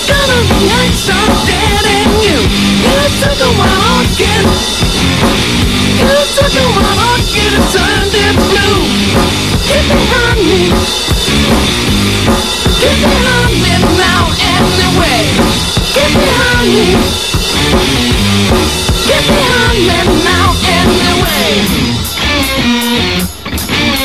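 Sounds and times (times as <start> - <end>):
drum kit beating: 0.0 - 24.0.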